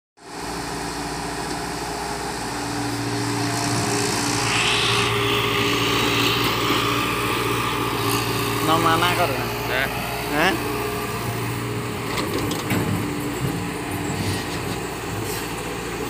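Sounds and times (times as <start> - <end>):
excavator diesel engine running: 0.2 - 16.0.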